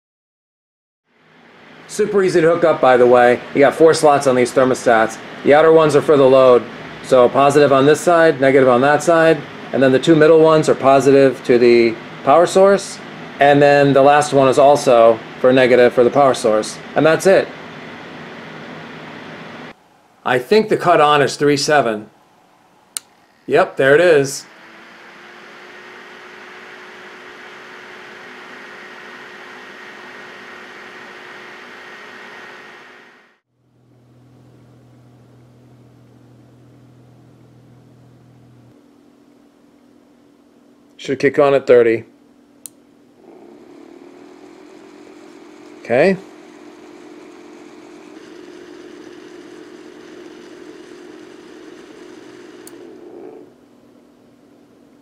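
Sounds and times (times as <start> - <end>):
cooling fans whirring: 1.1 - 55.0.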